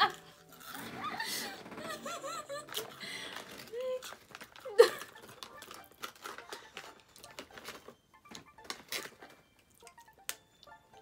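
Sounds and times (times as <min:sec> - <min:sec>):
plastic snack packets crinkling: 0:00.1 - 0:11.0.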